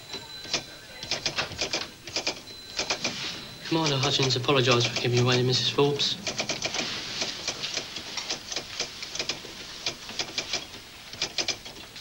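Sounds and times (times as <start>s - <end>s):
rapid irregular clicking: 0.4s - 3.2s, 3.8s - 5.4s, 6.2s - 12.0s.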